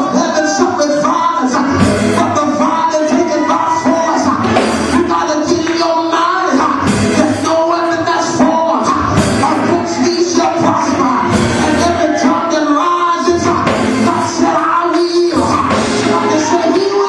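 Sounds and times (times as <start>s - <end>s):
upbeat gospel band music: 0.0s - 17.0s
voices singing: 0.0s - 17.0s.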